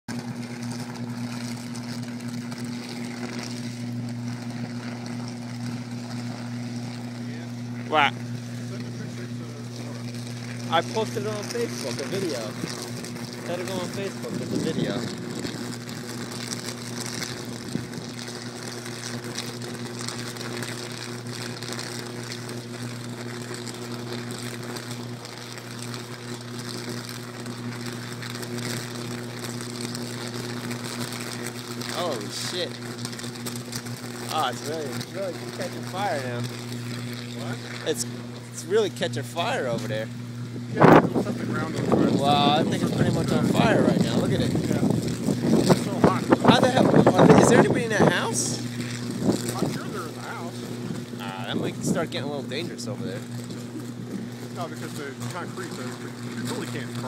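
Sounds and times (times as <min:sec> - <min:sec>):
electrical hum: 0:00.1 - 0:57.0
faint crackles: 0:00.1 - 0:57.0
power line arcing buzz: 0:00.1 - 0:57.0.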